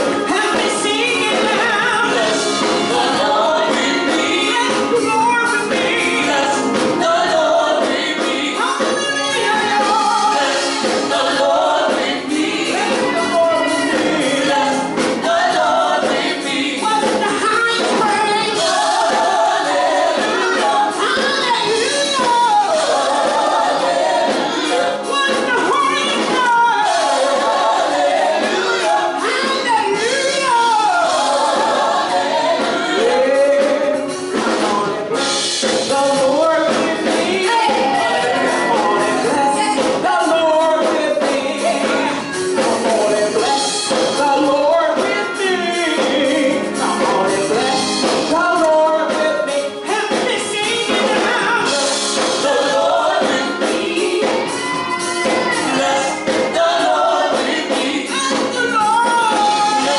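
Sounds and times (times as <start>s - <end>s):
group singing gospel: 0.0s - 59.9s.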